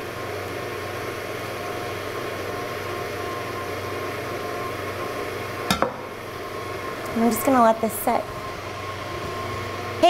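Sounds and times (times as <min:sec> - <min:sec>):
stand mixer humming: 0:00.0 - 0:10.0.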